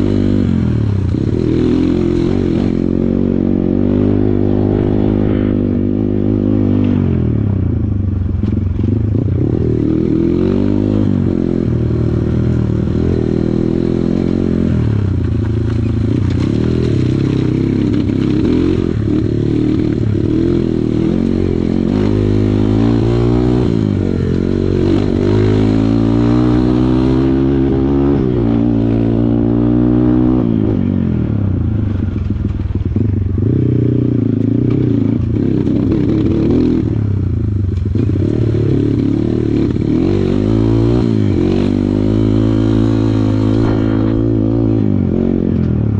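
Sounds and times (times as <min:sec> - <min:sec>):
dirt bike engine revving: 0:00.0 - 0:31.3, 0:32.9 - 0:45.6.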